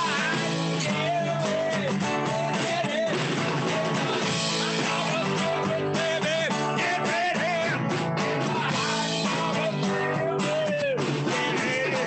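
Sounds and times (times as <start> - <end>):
acoustic guitar strumming: 0.0 - 12.0
drum kit beat: 0.0 - 12.0
man singing: 0.0 - 12.0.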